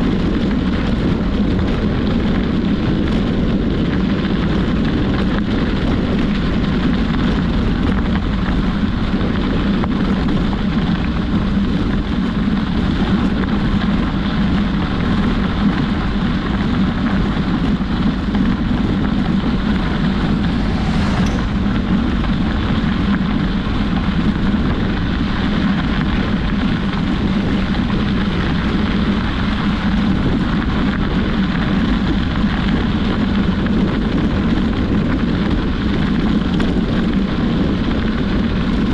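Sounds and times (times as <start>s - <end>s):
bicycle road rumble: 0.0s - 38.9s
wind rushing on microphone: 0.0s - 38.9s.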